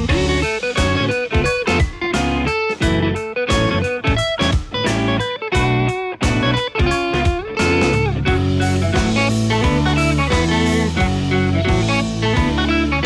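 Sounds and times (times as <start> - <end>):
guitar-led background music: 0.0 - 13.0.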